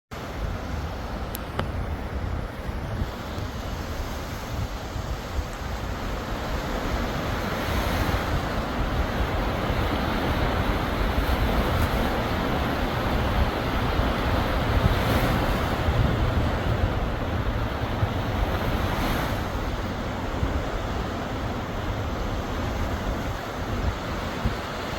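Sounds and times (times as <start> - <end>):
surf washing on shore: 0.2 - 24.9
wind buffeting microphone: 0.2 - 24.9.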